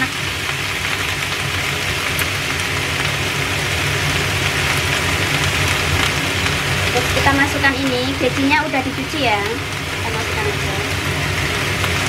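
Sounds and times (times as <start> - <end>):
cabbage sizzling in frying pan: 0.0 - 12.0.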